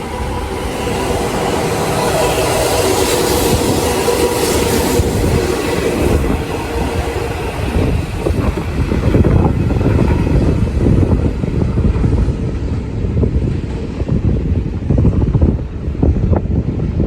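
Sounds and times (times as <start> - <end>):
train clatter: 0.0 - 17.0
train wheels rumbling on track: 0.0 - 17.0.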